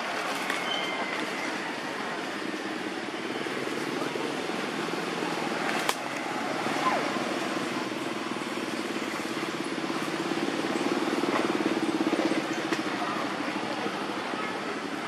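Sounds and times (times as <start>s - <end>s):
motor vehicle engine drone: 1.0s - 15.0s.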